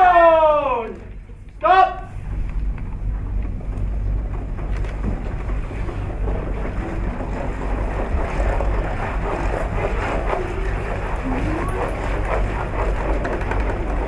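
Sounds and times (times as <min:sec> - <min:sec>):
low rumble: 0:00.9 - 0:14.0.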